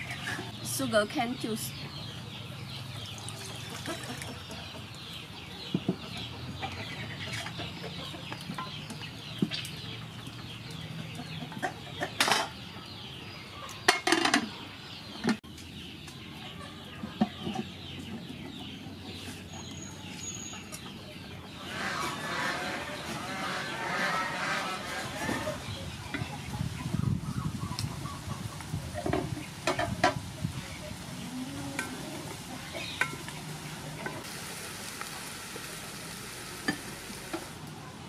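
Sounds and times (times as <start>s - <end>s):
chickens clucking and cheeping: 0.0s - 38.0s.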